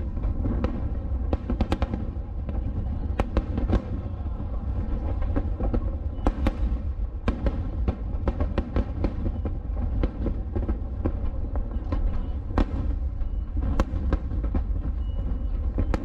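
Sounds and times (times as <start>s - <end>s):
continuous low rumble: 0.0s - 16.0s.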